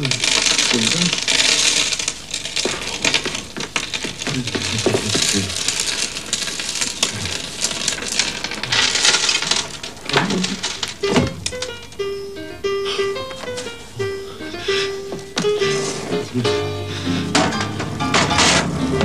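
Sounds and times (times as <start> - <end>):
plastic sheeting crinkling: 0.0 - 12.1, 12.8 - 19.0.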